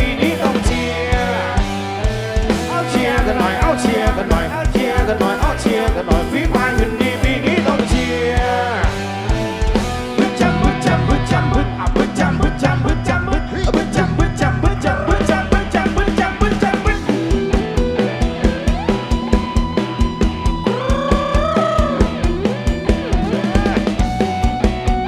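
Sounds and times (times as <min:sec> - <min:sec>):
drums beat: 0:00.0 - 0:25.0
live rock band music: 0:00.0 - 0:25.0.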